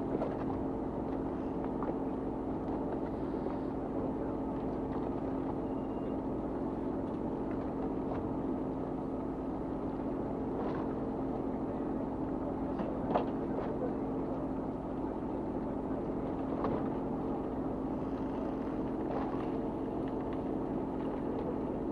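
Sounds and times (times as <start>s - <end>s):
boat engine humming: 0.0s - 21.9s.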